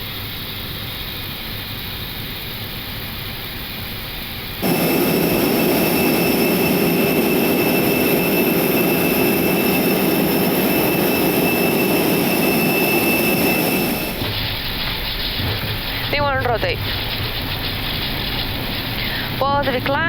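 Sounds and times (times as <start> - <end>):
jet engines at high thrust: 0.0 - 20.0.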